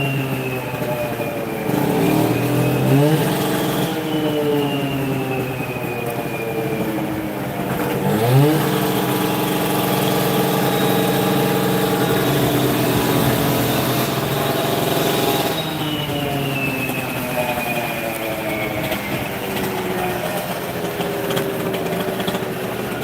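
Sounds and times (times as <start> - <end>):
machine engine revving: 0.0 - 23.0.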